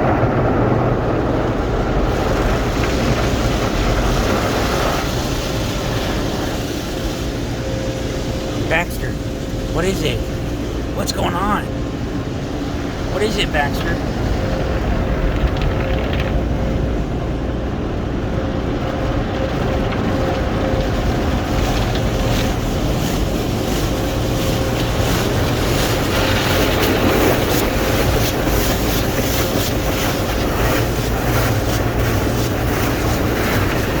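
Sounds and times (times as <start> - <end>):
car wash water and machinery: 0.0 - 34.0.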